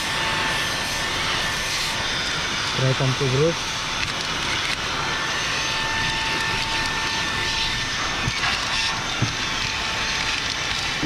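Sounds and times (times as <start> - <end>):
vacuum motor whine: 0.0 - 11.0.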